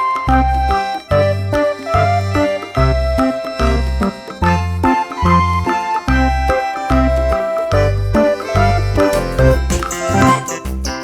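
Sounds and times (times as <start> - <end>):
bouncy keyboard tune: 0.0 - 11.0
repeating bass note: 1.1 - 11.0.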